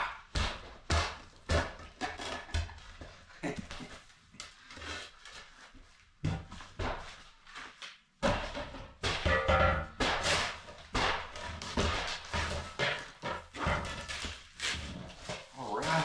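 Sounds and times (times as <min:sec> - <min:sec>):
shovel scraping and knocking on floor: 0:00.4 - 0:04.0, 0:04.6 - 0:16.0.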